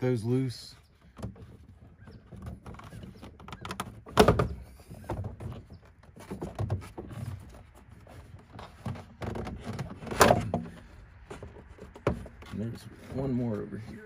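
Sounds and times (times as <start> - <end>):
plastic duct knocking and clunking: 1.0 - 14.0.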